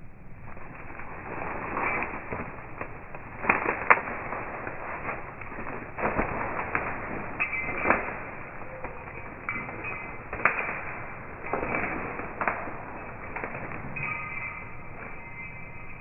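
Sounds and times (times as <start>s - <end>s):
slowed twigs snapping: 0.4s - 15.2s.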